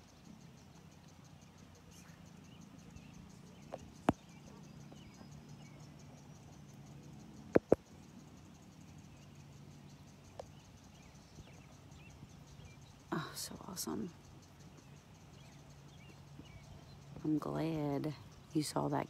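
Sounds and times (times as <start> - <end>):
faint low hum: 0.0 - 19.0
insects chirping: 0.0 - 19.0.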